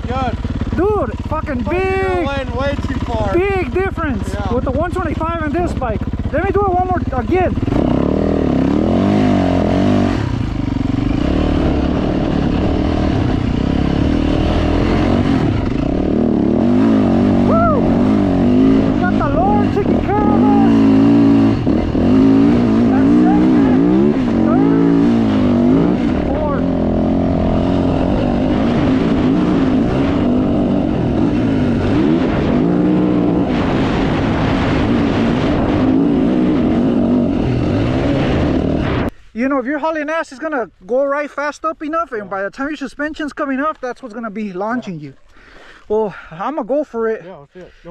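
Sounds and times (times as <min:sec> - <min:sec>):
dirt bike engine revving: 0:00.0 - 0:39.2.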